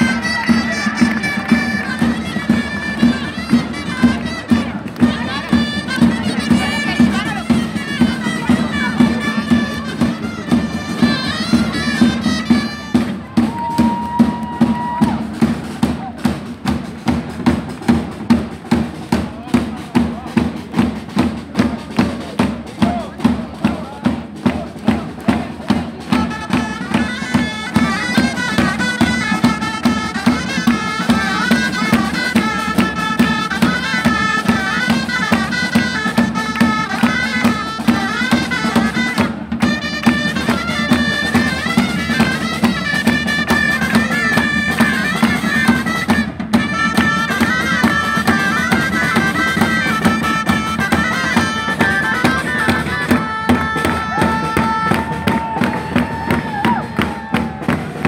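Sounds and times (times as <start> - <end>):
double-reed shawms playing folk tune: 0.0 - 13.5, 20.2 - 58.0
drum beating steady time: 0.0 - 58.0.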